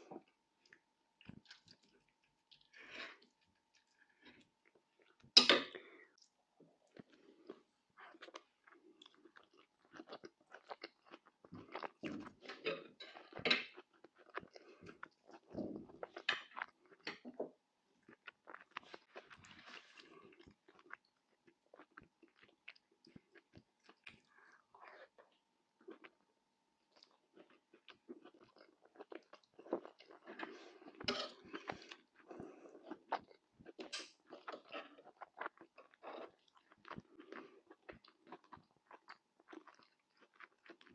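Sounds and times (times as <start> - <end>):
person chewing food: 0.0 - 17.3, 18.0 - 40.9.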